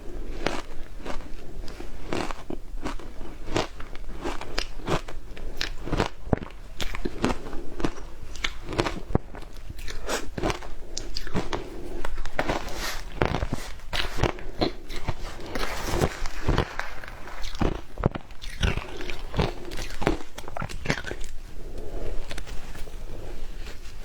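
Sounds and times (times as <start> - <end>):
ice crunching between teeth: 0.4 - 22.5.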